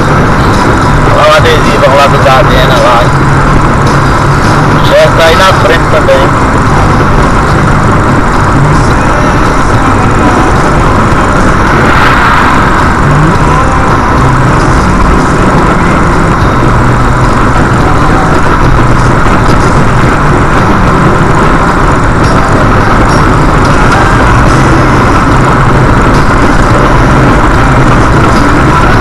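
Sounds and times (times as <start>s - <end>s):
car road noise from inside cabin: 0.0s - 29.0s.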